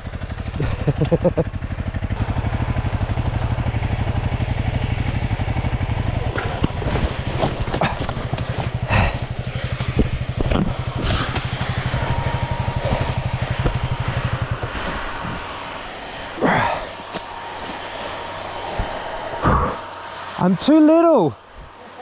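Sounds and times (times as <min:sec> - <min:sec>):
dirt bike engine low revs: 0:00.0 - 0:22.0.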